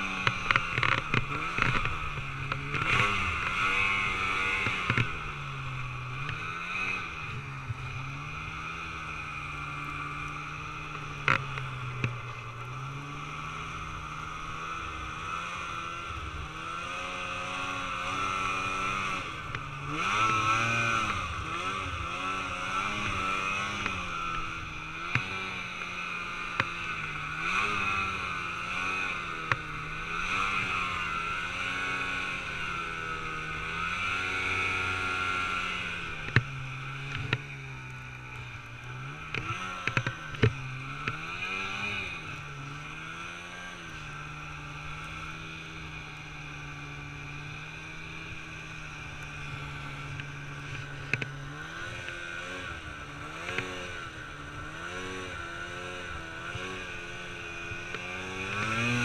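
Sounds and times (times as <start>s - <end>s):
snowmobile engine: 0.0s - 59.0s.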